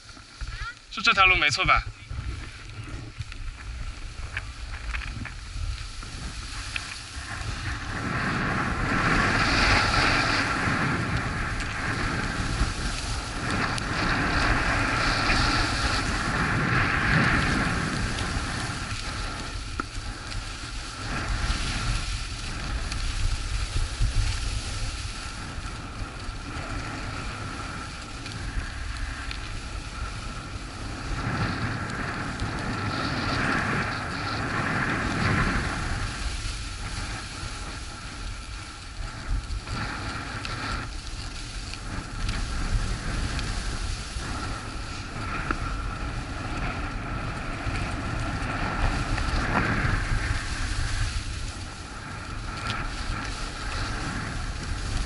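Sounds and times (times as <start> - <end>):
skis scraping over snow: 0.0 - 55.0
wind rushing over microphone: 0.0 - 55.0.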